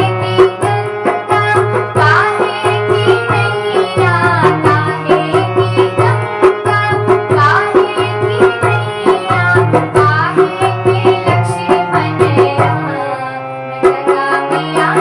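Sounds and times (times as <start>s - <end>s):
hand drum rhythm: 0.0s - 13.1s
devotional music: 0.0s - 15.0s.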